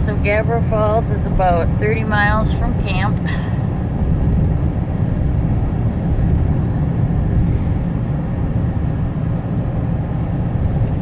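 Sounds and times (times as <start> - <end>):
truck driving rumble: 0.0 - 11.0.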